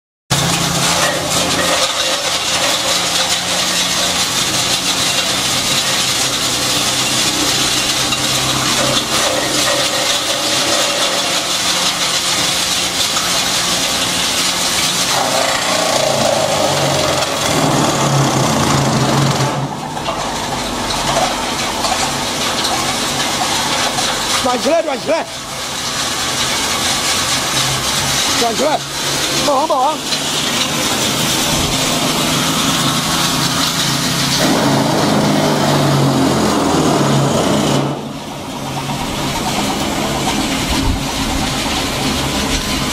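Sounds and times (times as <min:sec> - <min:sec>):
crusher grinding branches: 0:00.3 - 0:42.9.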